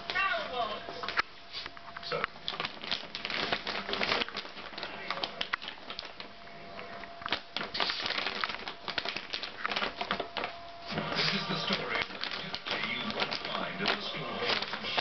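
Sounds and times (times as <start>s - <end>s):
plastic crinkling: 0.9s - 15.0s
dog tugging at plastic bag: 2.4s - 6.3s, 6.9s - 15.0s.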